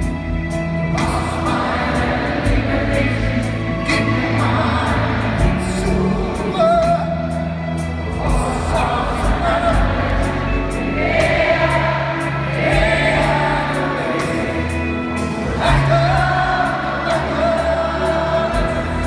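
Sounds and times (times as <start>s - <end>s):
audience singing along: 0.0s - 19.0s
double bass: 0.0s - 19.0s
piano: 0.0s - 19.0s.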